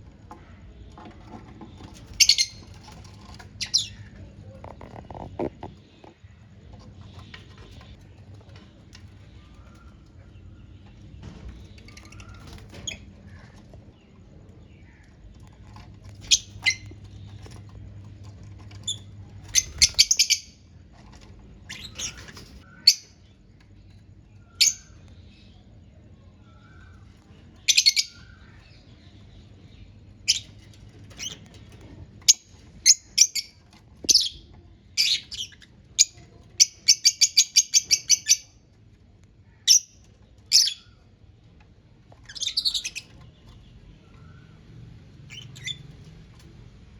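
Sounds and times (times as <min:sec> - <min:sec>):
lovebirds chirping and squawking: 0:00.0 - 0:46.7
faint low hum: 0:00.0 - 0:46.9.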